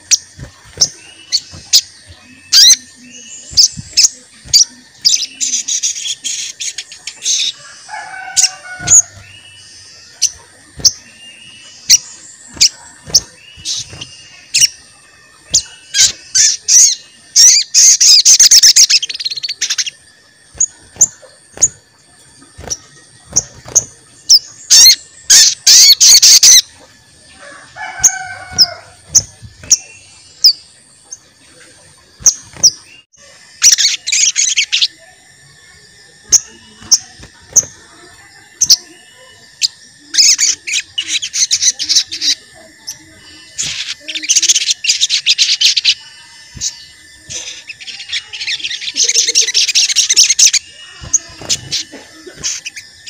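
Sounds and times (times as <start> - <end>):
bird chirping and trilling: 0.0 - 53.0.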